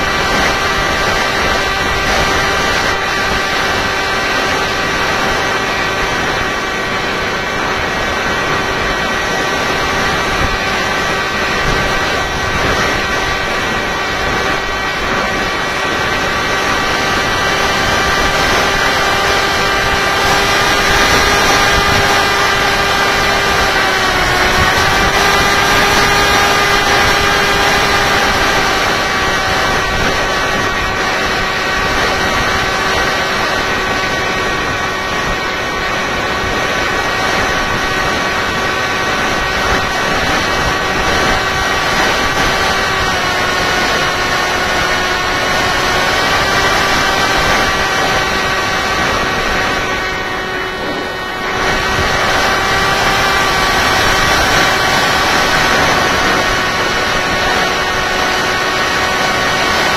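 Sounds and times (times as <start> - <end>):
electric motor and propeller whine: 0.0 - 59.9
rush of air noise: 0.0 - 59.9.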